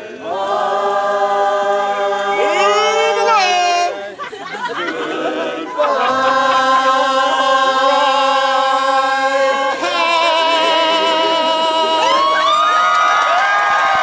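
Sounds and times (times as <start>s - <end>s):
voices singing held chords: 0.0s - 13.4s.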